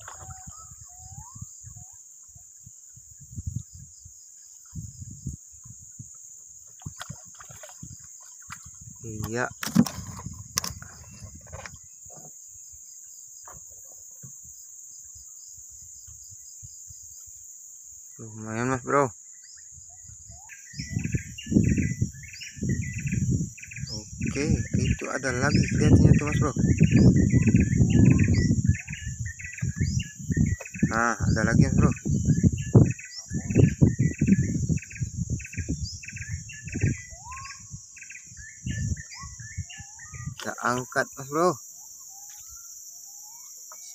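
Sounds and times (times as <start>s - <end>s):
high-pitched insect chorus: 0.0s - 43.9s
soft pulsing insect call: 0.0s - 43.9s.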